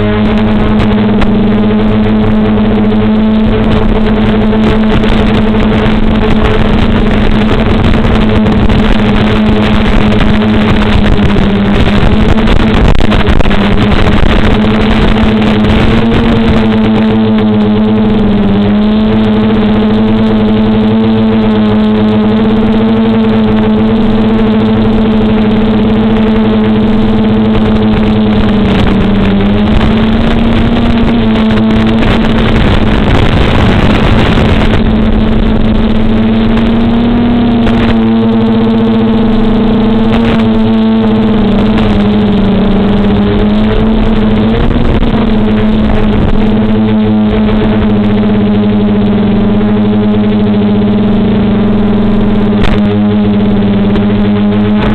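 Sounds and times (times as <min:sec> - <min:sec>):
quadcopter motors humming: 0:00.0 - 0:54.9.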